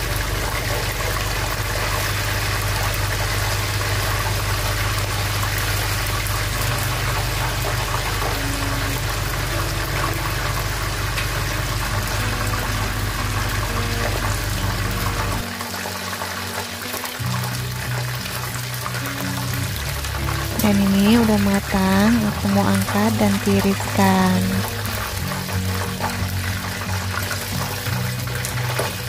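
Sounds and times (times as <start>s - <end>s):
chicken sizzling in hot oil: 0.0s - 29.0s
faint background music: 4.4s - 29.0s.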